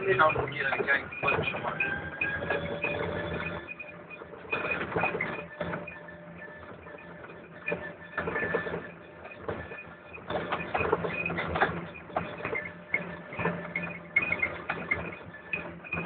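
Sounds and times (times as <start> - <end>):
vehicle hum and whine: 0.0 - 16.0.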